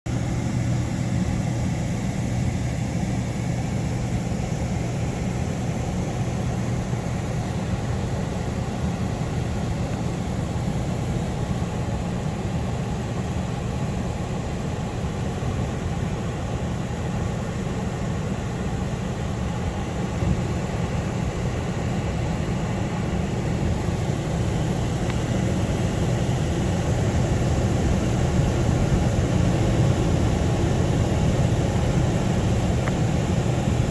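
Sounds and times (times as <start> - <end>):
air handler humming: 0.1 - 33.9.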